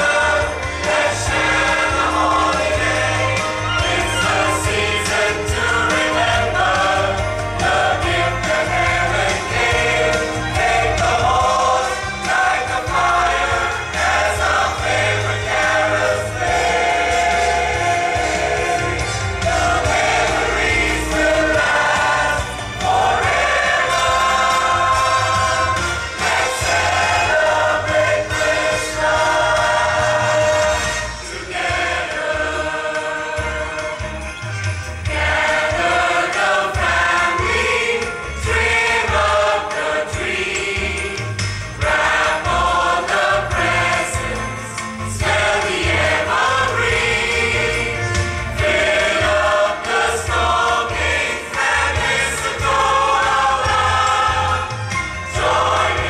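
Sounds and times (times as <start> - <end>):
choir singing: 0.0 - 56.0
instrumental accompaniment: 0.0 - 56.0.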